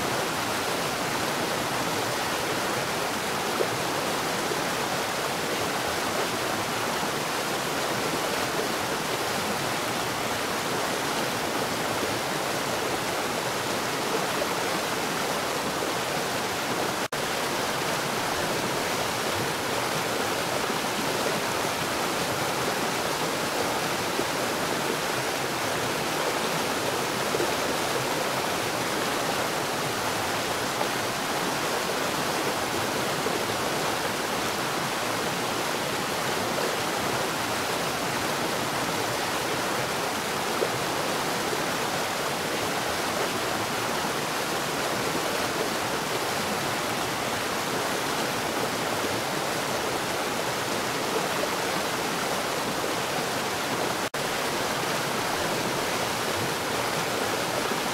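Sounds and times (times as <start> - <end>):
rush of falling water: 0.0 - 57.9.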